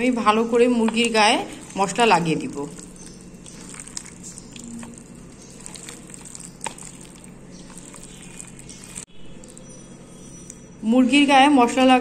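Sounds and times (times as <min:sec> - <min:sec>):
hands squishing wet paste into meat: 0:00.0 - 0:10.7.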